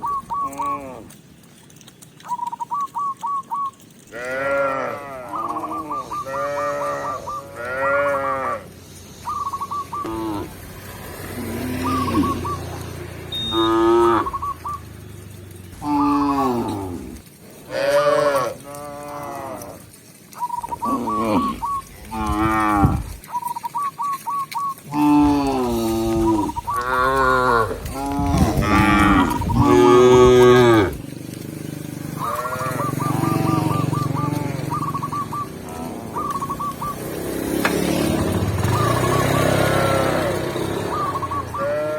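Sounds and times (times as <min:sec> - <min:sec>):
cows mooing: 0:04.1 - 0:08.8, 0:10.0 - 0:20.1, 0:20.7 - 0:23.3, 0:24.8 - 0:41.9.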